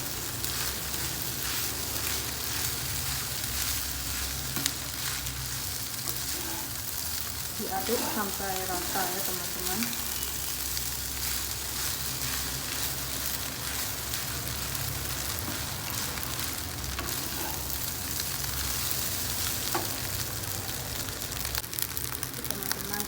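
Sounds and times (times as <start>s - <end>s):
rice sizzling in a pan: 0.0s - 23.0s.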